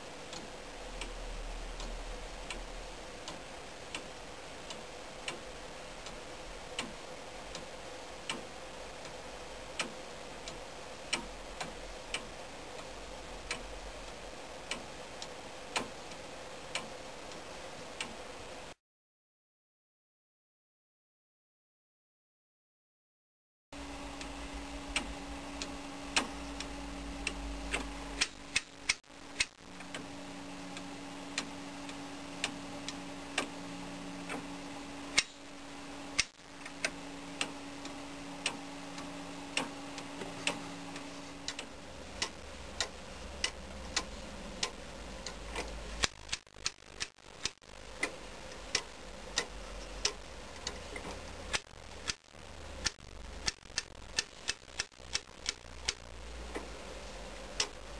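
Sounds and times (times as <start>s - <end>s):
clock ticking: 0.2s - 17.4s, 23.8s - 30.1s, 30.7s - 35.4s, 36.1s - 56.8s, 57.4s - 57.9s
clock gears clicking when wound: 0.3s - 17.4s, 24.2s - 30.1s, 30.7s - 33.6s, 34.2s - 34.5s, 35.1s - 35.4s, 36.1s - 52.2s, 52.8s - 56.7s, 57.5s - 57.8s.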